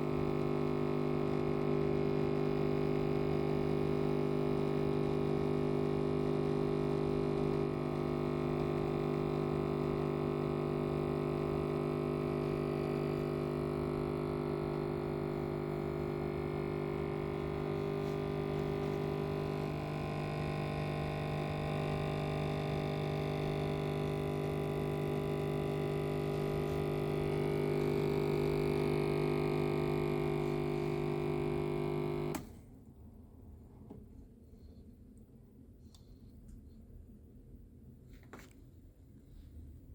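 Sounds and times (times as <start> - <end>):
coffee machine humming: 0.0 - 32.6.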